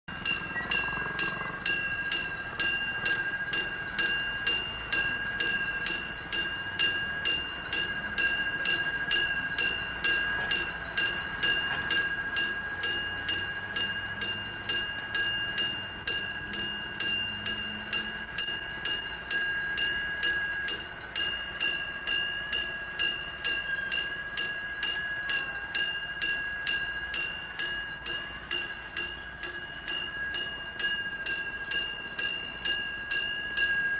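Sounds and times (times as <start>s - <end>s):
railroad crossing bell ringing: 0.1s - 33.9s.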